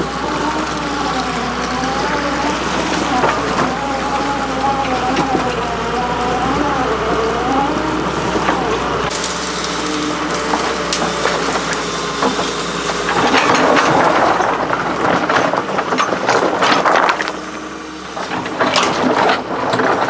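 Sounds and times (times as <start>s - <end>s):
excavator engine running: 0.0s - 20.0s
knocks and crunching: 0.0s - 20.0s.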